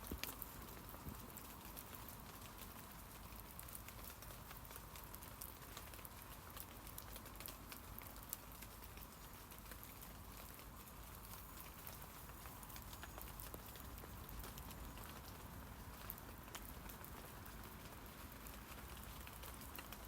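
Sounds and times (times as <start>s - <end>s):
light rain on leaves: 0.0s - 20.0s
rain drips and patters: 0.0s - 20.0s.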